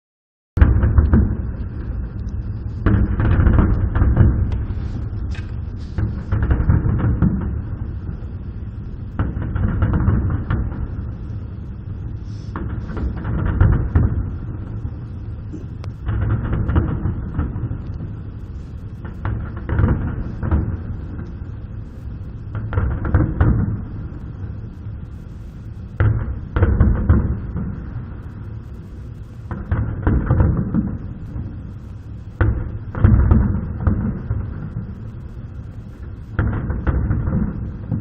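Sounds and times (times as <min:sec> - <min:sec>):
fireworks booming: 0:00.6 - 0:38.0.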